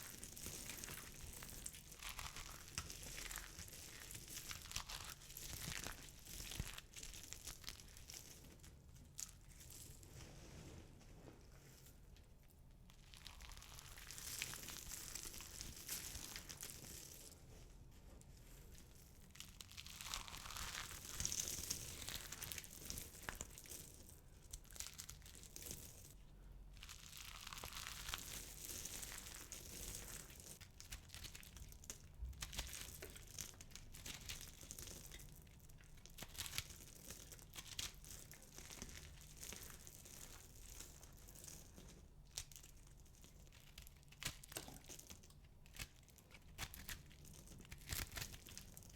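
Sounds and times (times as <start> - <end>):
dry soap crushed crackling: 0.0 - 10.6, 11.7 - 48.9.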